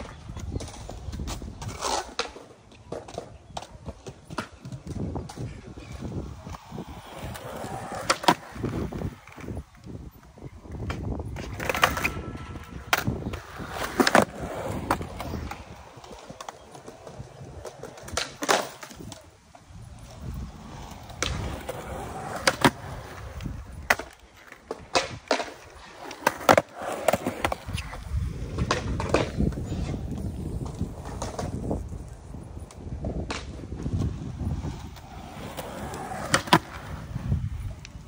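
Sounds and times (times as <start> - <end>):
skateboard clacking on ground: 0.0 - 38.0
skateboard wheels rolling on concrete: 0.0 - 38.0.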